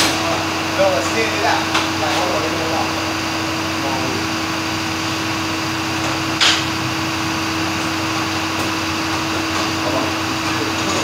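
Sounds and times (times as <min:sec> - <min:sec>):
machine hum with whir: 0:00.0 - 0:11.0.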